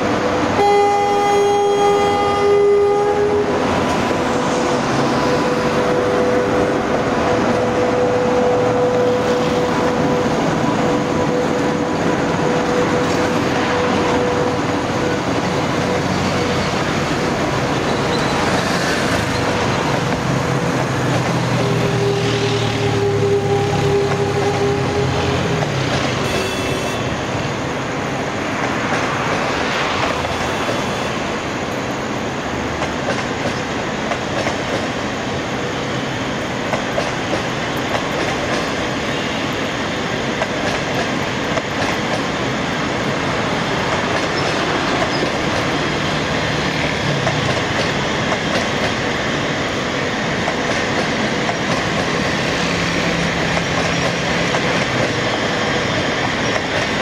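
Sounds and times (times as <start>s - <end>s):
train rumbling past: 0.0s - 57.0s.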